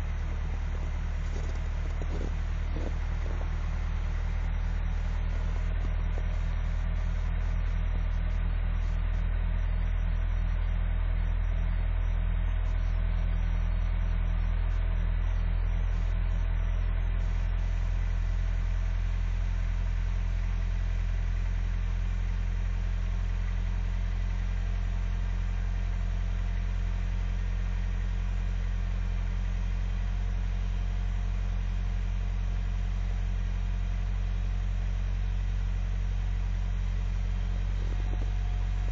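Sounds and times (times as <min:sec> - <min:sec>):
vehicle engine idling: 0:00.0 - 0:38.9.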